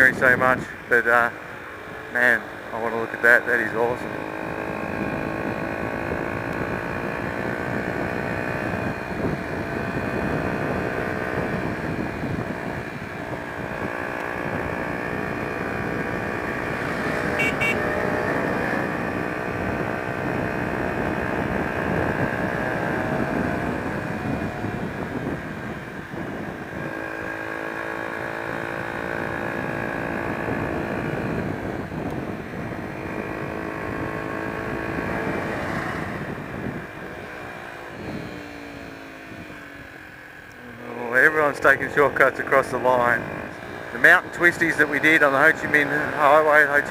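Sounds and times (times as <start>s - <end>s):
motorcycle engine running: 0.0s - 46.9s
road rumble: 0.0s - 46.9s
wind: 0.0s - 46.9s.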